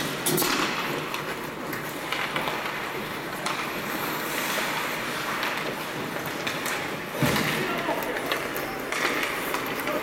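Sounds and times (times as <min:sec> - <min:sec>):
hockey sticks and puck knocking: 0:00.0 - 0:10.0
skates scraping ice: 0:00.0 - 0:10.0.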